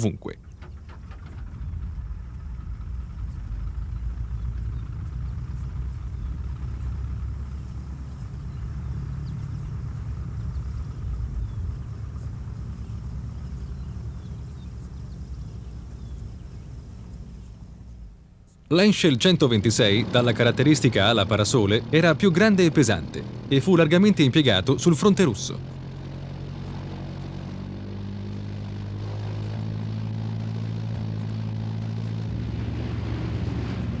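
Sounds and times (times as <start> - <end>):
faint high hum: 0.0 - 34.0
low engine rumble: 0.0 - 34.0.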